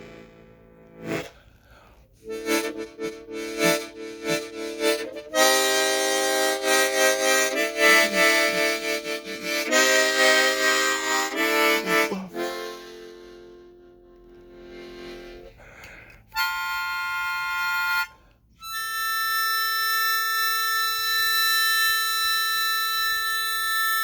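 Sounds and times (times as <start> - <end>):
harmonica chords: 0.0 - 24.0.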